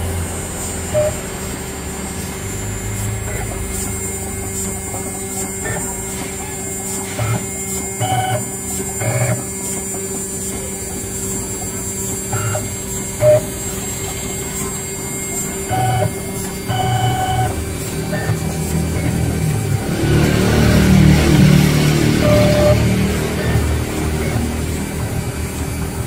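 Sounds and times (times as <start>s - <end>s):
router motor hum: 0.0s - 26.0s
short pitched motor whines: 0.0s - 26.0s.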